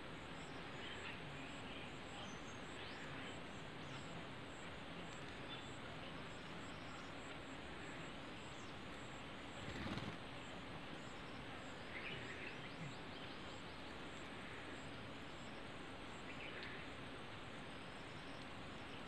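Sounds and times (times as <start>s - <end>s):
outdoor background hiss: 0.0s - 19.0s
faint bird chirps: 0.2s - 17.0s.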